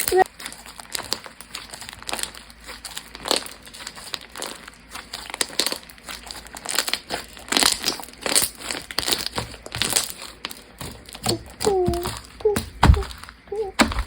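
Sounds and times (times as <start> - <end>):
bead slime crunching and crackling: 0.0 - 14.0.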